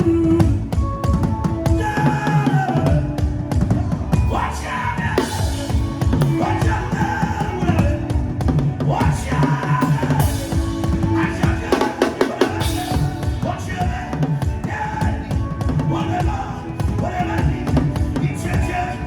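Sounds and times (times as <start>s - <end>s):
drum kit playing fast rhythm: 0.0s - 19.0s.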